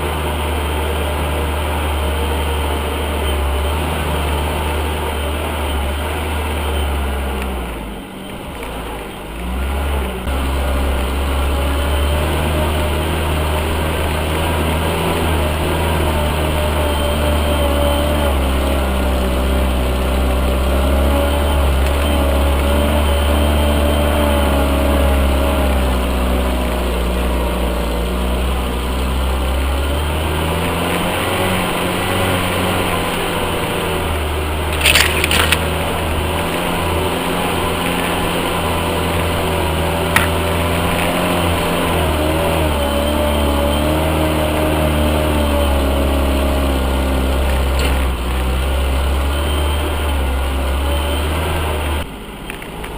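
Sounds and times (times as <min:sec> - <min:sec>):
off-road vehicle engine running: 0:00.0 - 0:52.9.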